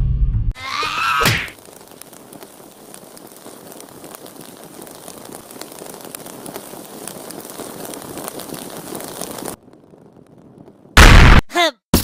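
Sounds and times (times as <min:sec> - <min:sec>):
bomb fuse sizzling and crackling: 0:00.6 - 0:11.4.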